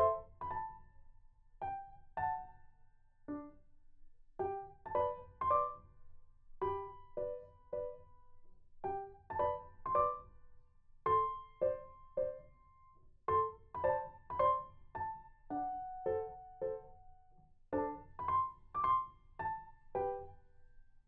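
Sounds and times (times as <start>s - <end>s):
slow gentle piano melody: 0.0s - 3.8s, 4.4s - 21.0s.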